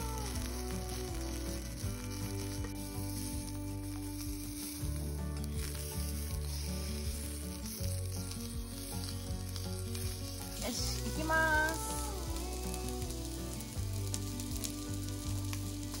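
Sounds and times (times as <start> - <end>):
sausages sizzling in oil: 0.0 - 16.0
soft background music: 0.0 - 16.0.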